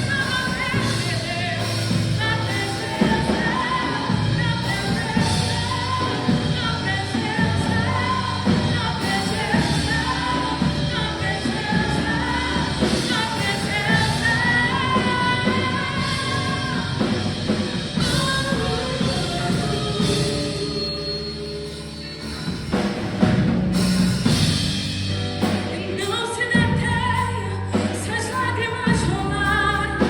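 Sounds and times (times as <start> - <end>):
worship band playing: 0.0 - 30.0.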